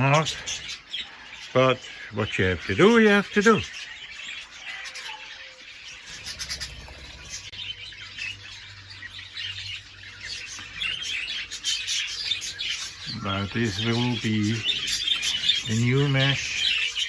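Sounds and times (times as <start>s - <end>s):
budgerigars chirping: 0.0s - 17.0s.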